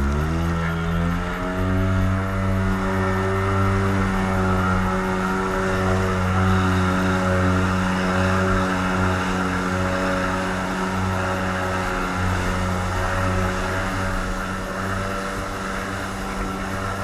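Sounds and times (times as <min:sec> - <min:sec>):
small boat motor droning: 0:00.0 - 0:17.0.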